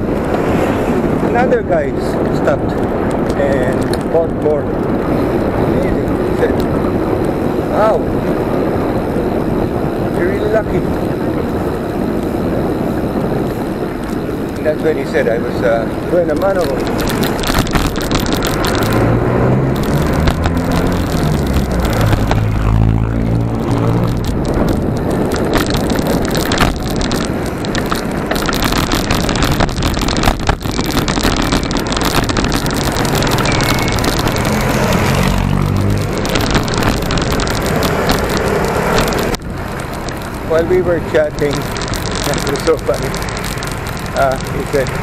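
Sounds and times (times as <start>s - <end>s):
street traffic noise: 0.0s - 45.0s
wind rushing over microphone: 0.0s - 45.0s.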